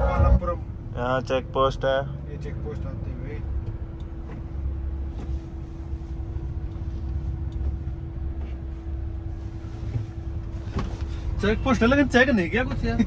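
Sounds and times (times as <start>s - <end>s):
car engine and road rumble: 0.0s - 13.0s
constant hum: 0.0s - 13.0s.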